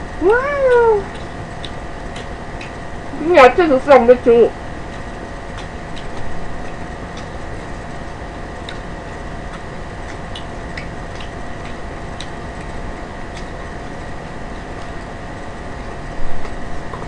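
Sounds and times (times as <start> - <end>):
background hum and hiss: 0.0 - 17.0
faint chewing clicks: 0.4 - 17.0.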